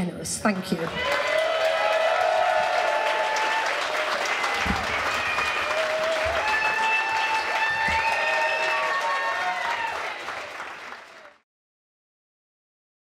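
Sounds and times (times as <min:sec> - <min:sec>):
audience applauding and cheering: 0:00.4 - 0:11.4.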